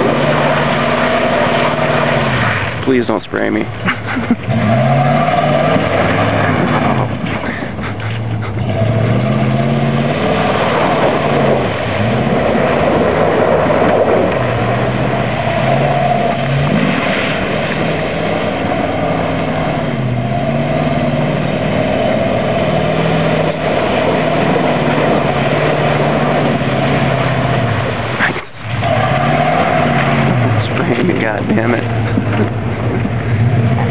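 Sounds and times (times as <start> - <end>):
pickup engine revving: 0.0 - 33.9
tyres churning mud and water: 0.0 - 33.9.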